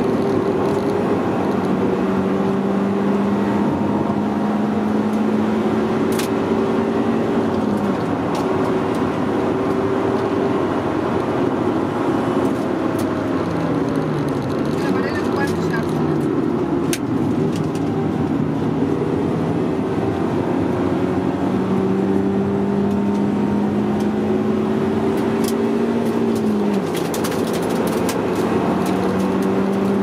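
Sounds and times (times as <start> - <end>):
car engine at speed: 0.0 - 30.0
road noise: 0.0 - 30.0.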